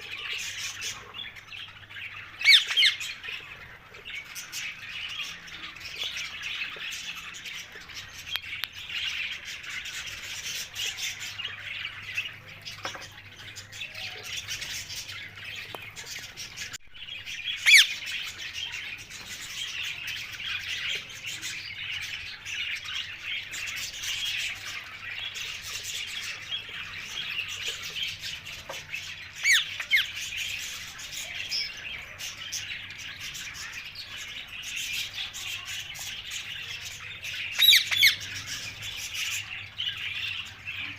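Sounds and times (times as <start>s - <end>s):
birds chirping and chattering: 0.0s - 40.9s.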